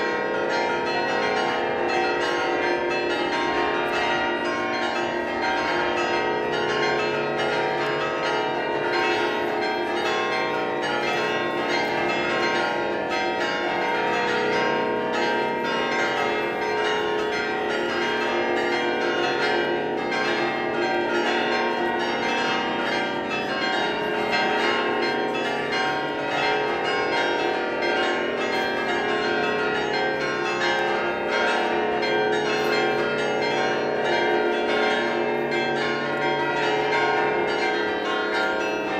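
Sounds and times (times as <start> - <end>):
carillon bells ringing: 0.0 - 38.9.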